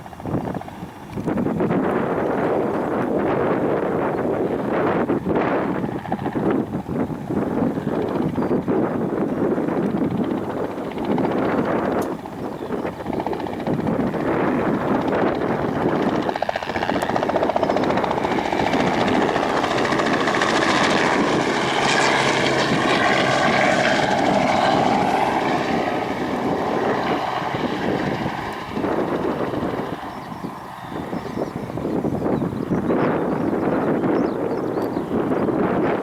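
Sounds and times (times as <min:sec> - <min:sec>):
helicopter rotor chopping: 0:00.0 - 0:36.0.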